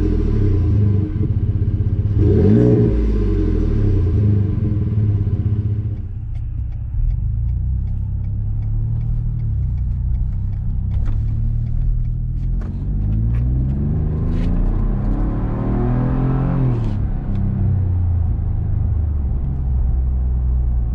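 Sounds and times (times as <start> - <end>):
truck engine idling and revving: 0.0 - 20.9.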